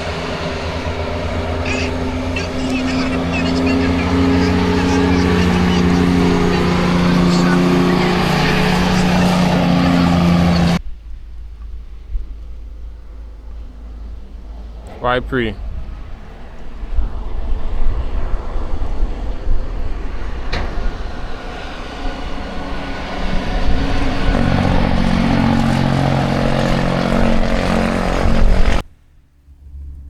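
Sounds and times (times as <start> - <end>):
truck engine brake rattle: 0.0 - 30.0.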